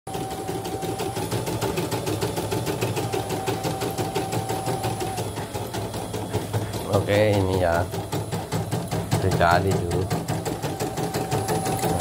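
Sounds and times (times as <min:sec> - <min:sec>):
embroidery machine needle strokes: 0:00.2 - 0:12.0.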